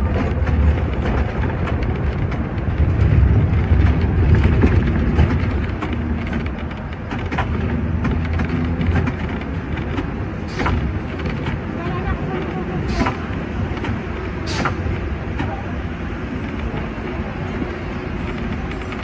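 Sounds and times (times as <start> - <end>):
wheel and body clicks and rattles: 0.0 - 15.6, 16.2 - 19.0
tram rumbling on rails: 0.0 - 19.0.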